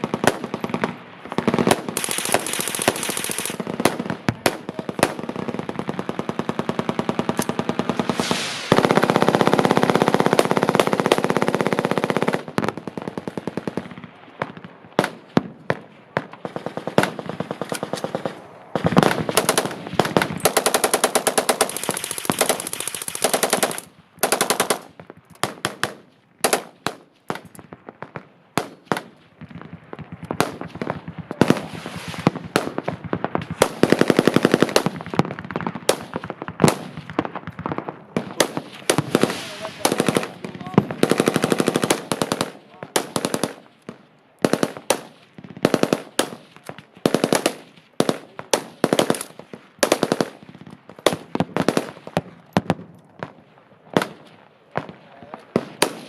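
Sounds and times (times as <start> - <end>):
machine guns firing bursts: 0.0 - 14.0, 16.4 - 27.6, 30.2 - 52.2, 54.8 - 56.0.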